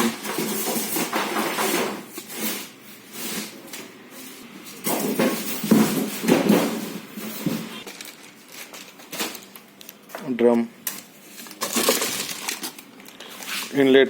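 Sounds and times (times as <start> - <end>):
items being handled: 0.0 - 14.0.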